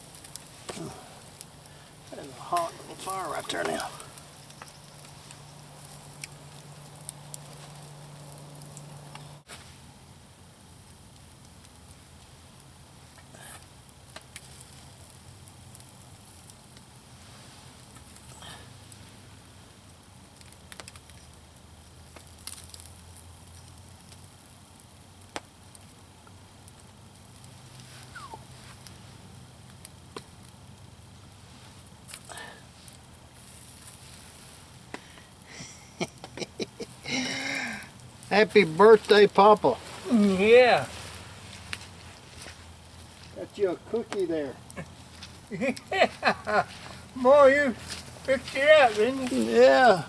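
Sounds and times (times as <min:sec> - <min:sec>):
campfire crackling and popping: 0:00.0 - 0:50.0
meat grilling: 0:00.0 - 0:50.0
steady low hum: 0:00.0 - 0:50.0.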